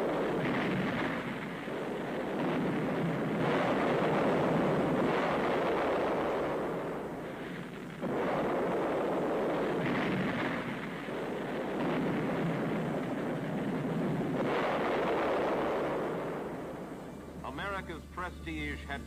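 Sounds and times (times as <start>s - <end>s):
rocket explosion rumbling: 0.0s - 18.3s.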